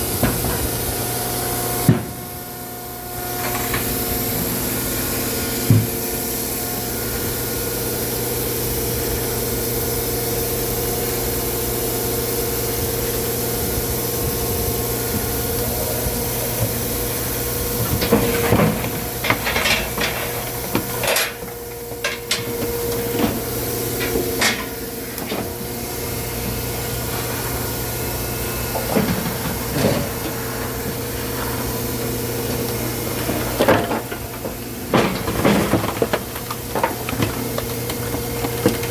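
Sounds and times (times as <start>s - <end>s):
machinery humming: 0.0s - 38.9s.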